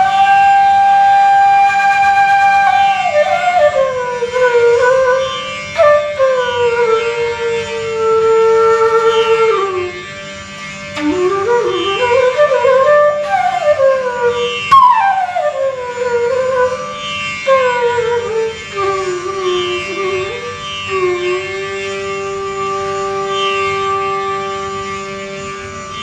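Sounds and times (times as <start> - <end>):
flute playing slow melody: 0.0 - 25.6.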